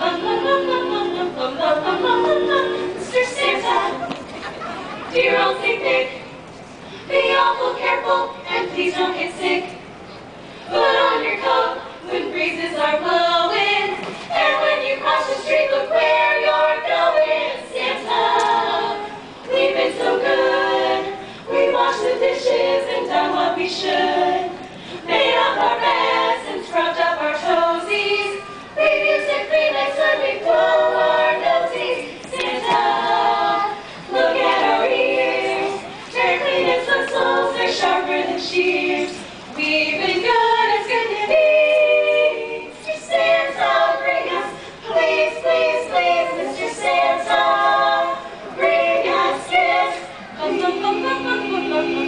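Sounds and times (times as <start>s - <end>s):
group singing a cappella: 0.0s - 6.4s, 7.0s - 9.9s, 10.5s - 52.0s.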